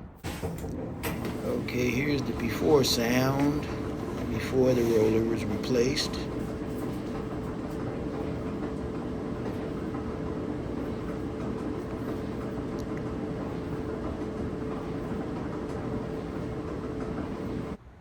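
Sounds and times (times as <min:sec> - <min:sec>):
clothes dryer rumbling: 0:00.0 - 0:17.8.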